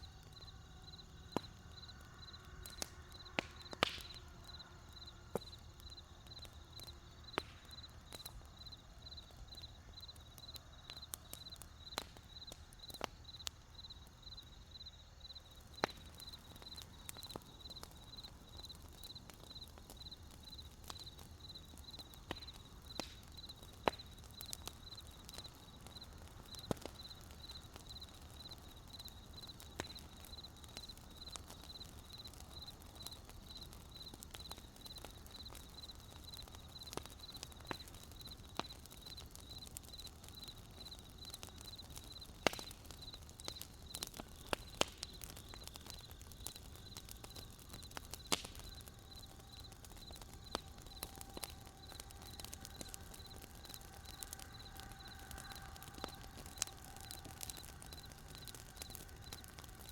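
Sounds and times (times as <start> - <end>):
campfire crackling and popping: 0.0 - 59.9
cricket chirping: 0.0 - 59.9.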